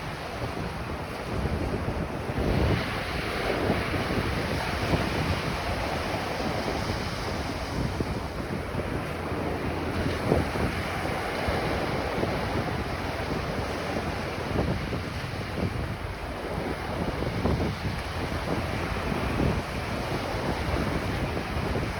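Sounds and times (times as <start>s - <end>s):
ocean waves on a beach: 0.0s - 21.9s
wind buffeting microphone: 0.0s - 21.9s.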